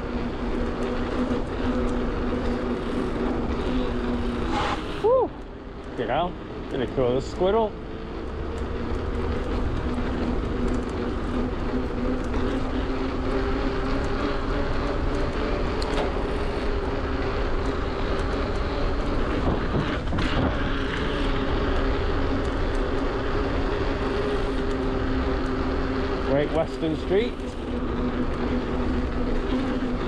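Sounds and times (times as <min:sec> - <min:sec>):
electric bike motor whine: 0:00.0 - 0:30.0
low rumble of riding noise: 0:00.0 - 0:30.0.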